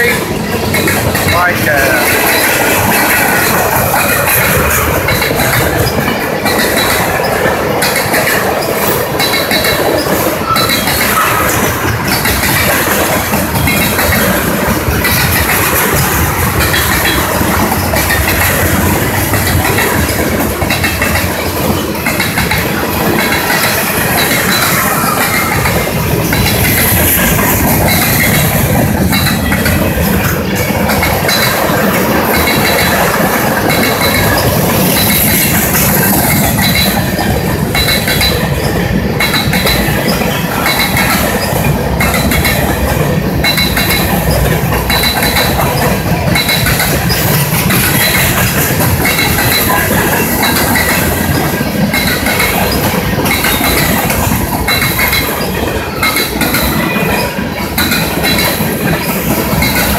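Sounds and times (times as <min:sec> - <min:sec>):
train clanks: 0:00.0 - 0:59.9
train wheels rumbling on rails: 0:00.0 - 0:59.9.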